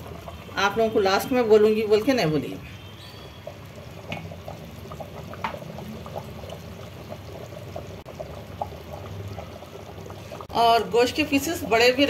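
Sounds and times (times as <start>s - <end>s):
gravy bubbles popping: 0.0s - 12.0s.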